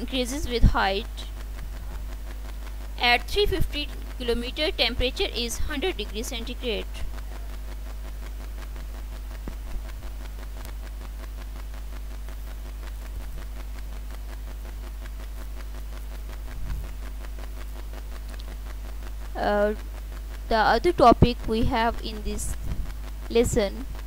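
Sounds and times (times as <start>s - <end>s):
low hum with faint hiss: 0.0s - 24.0s.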